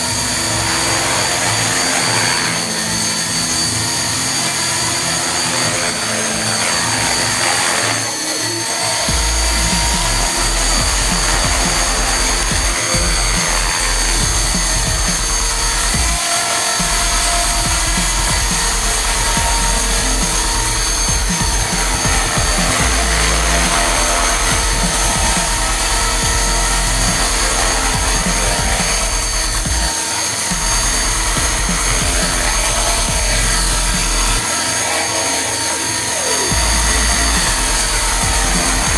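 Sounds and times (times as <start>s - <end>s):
rc helicopter motor whine: 0.0s - 38.9s
rotor rushing: 0.0s - 38.9s.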